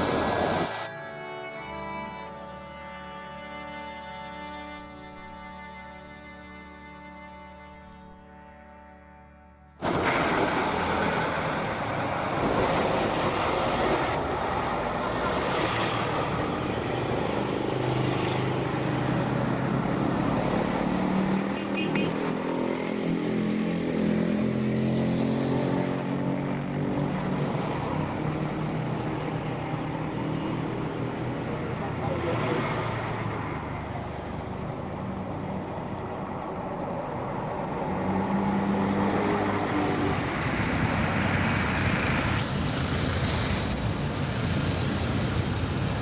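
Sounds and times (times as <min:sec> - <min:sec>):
jet engines running: 0:00.0 - 0:02.0, 0:09.8 - 0:46.0.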